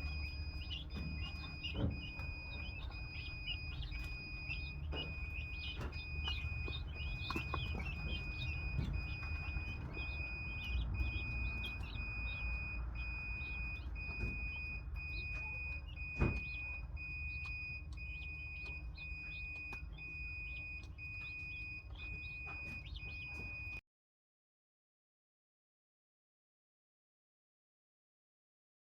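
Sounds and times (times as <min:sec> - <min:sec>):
guinea fowl chirping: 0:00.0 - 0:23.8
high beeping tone: 0:00.0 - 0:23.8.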